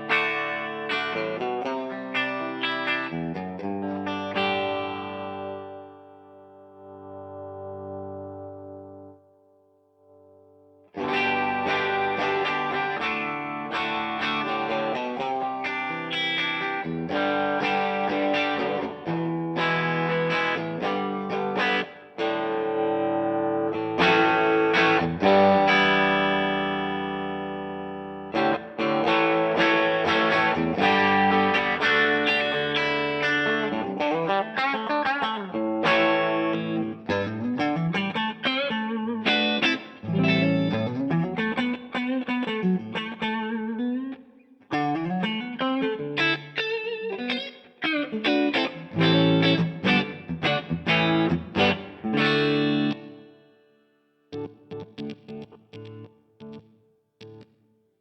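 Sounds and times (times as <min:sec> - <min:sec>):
electric guitar chords: 0:00.0 - 0:57.8.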